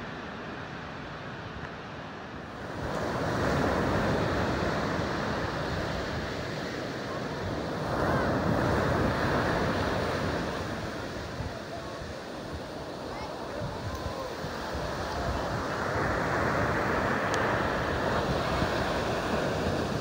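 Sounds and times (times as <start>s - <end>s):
ocean surf breaking on beach: 0.0s - 20.0s.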